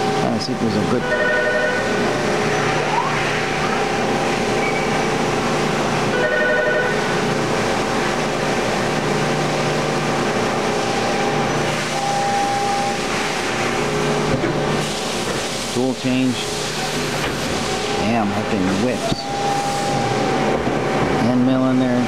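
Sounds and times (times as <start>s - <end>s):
milling machine whirring: 0.0s - 22.0s
steady machine tone: 0.0s - 22.0s.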